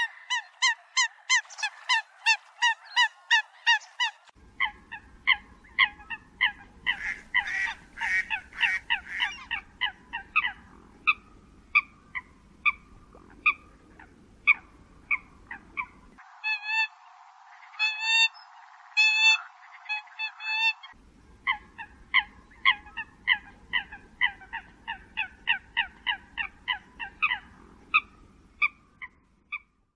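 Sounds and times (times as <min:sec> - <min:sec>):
coots honking calls: 0:00.0 - 0:16.9, 0:19.0 - 0:28.8
higher cleaner bird calls: 0:00.0 - 0:29.7
background hiss: 0:03.8 - 0:29.9.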